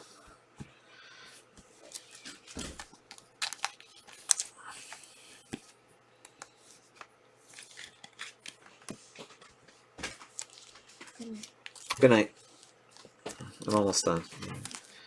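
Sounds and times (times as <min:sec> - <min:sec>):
trading cards flipped through: 0:01.8 - 0:15.0.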